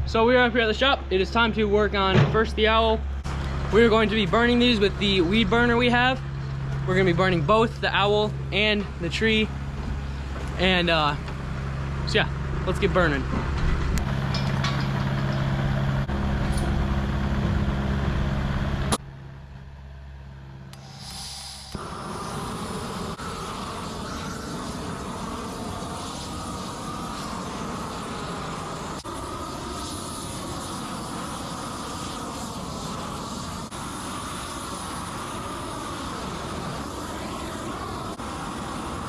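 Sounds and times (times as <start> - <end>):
low motor hum: 0.0 - 39.0
weed burner flame roaring: 0.0 - 39.0.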